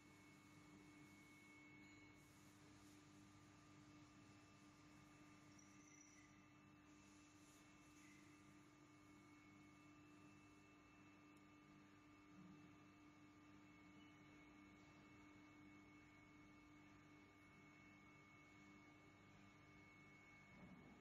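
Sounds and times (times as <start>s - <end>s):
faint hum of held tones: 0.0s - 21.0s.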